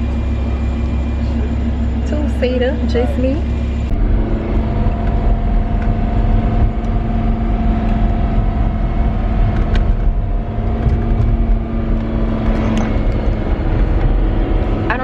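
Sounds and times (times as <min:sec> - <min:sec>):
car engine running steadily: 0:00.0 - 0:15.0
road and wind rumble: 0:00.0 - 0:15.0.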